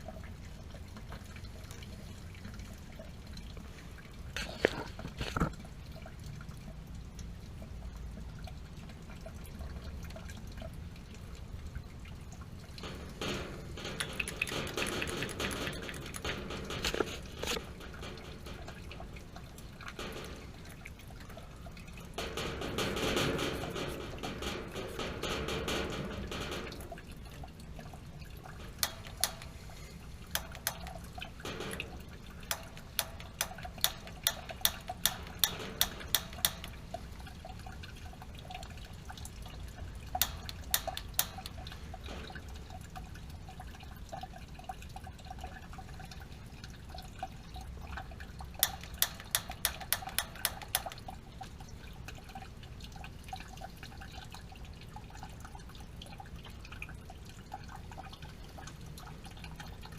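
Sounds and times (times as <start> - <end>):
water dripping: 0.0 - 59.9.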